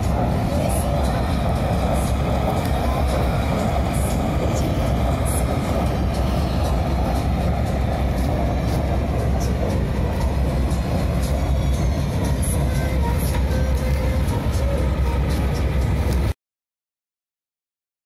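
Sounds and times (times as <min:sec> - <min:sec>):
combine harvester engine drone: 0:00.0 - 0:16.4.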